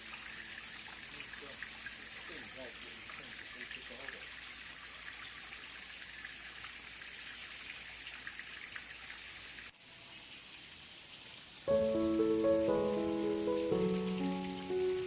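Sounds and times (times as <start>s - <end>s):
creek water trickling over rocks: 0.0s - 15.0s.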